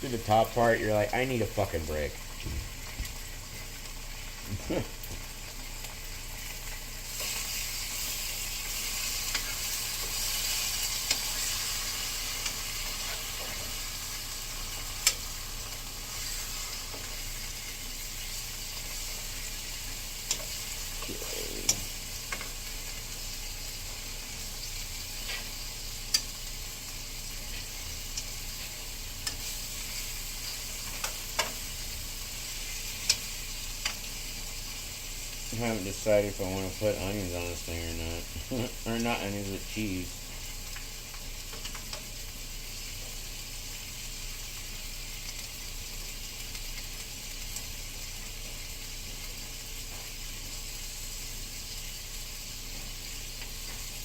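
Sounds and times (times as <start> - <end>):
food sizzling in a frying pan: 0.0 - 54.0.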